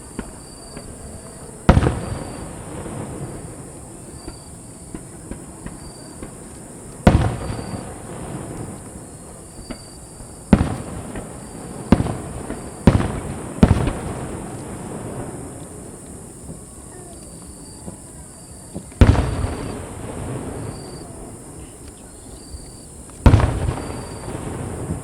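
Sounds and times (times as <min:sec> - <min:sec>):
firework booms with echo: 0:00.0 - 0:16.7, 0:17.3 - 0:21.8, 0:22.5 - 0:25.0
firework pops and crackles: 0:00.0 - 0:25.0.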